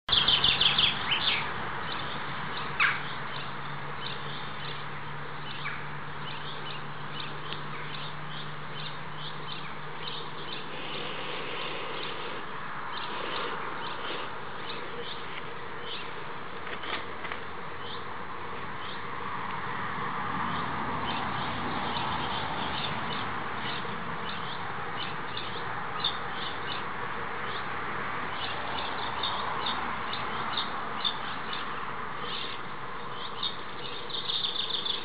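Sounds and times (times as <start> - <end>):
small birds chirping: 0.1 - 19.1, 20.4 - 35.0
steady low hum: 0.1 - 29.2.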